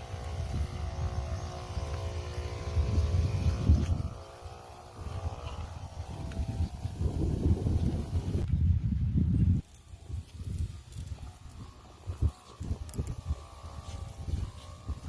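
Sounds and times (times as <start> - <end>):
droning hum: 0.0 - 15.0
wind buffeting microphone: 0.0 - 15.0.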